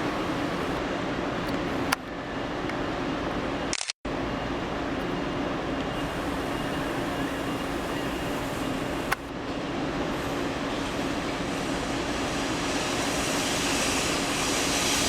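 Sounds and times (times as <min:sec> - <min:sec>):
railway trackside rumble: 0:00.0 - 0:15.0.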